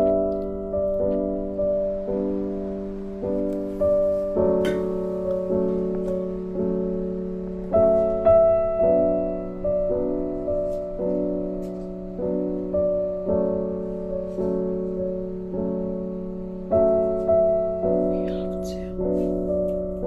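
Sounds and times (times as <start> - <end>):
slow soft piano chords: 0.0 - 20.0.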